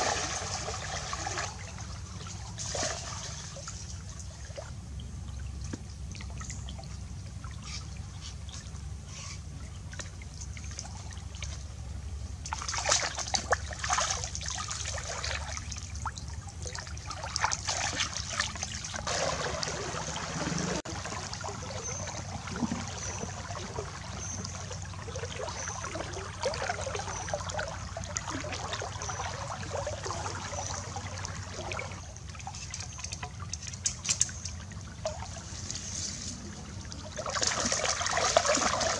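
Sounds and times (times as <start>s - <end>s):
stream trickling: 0.0s - 38.9s
water sloshing and splashing: 0.0s - 38.9s.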